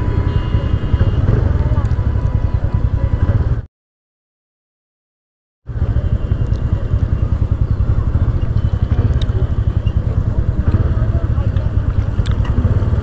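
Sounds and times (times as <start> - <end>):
scooter engine rumble: 0.0 - 3.7, 5.7 - 13.0.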